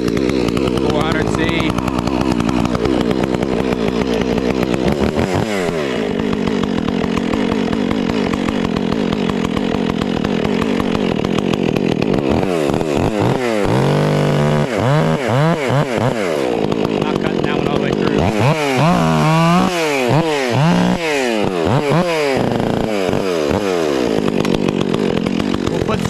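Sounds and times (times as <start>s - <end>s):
chainsaw cutting and revving: 0.0s - 26.0s.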